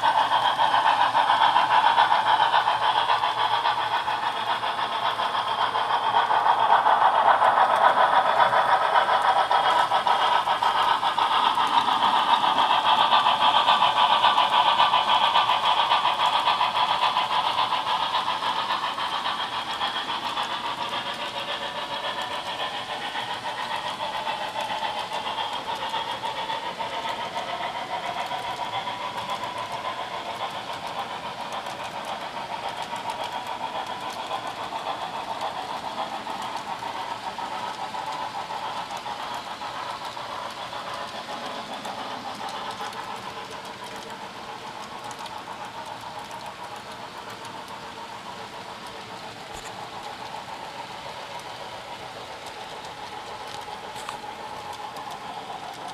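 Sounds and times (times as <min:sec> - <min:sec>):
model train clattering on track: 0:00.0 - 0:55.9.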